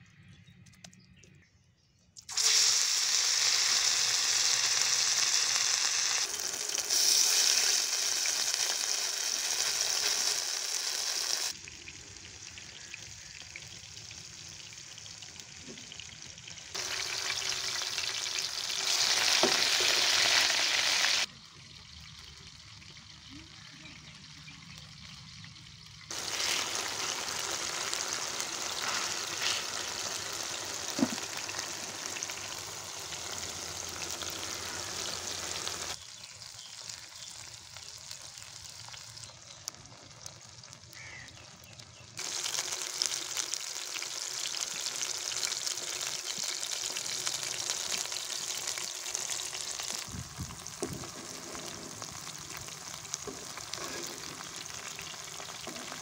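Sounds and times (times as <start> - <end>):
meat sizzling on a griddle: 2.3 - 25.4, 26.1 - 56.0.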